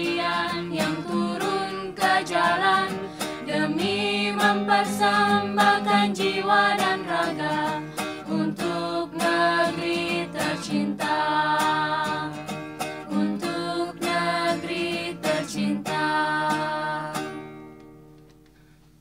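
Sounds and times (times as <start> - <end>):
strummed acoustic guitar: 0.0 - 18.8.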